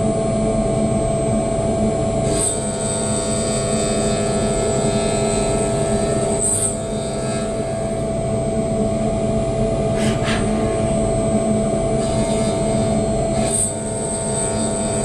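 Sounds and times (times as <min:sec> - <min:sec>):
milling machine whine and rumble: 0:00.0 - 0:15.0.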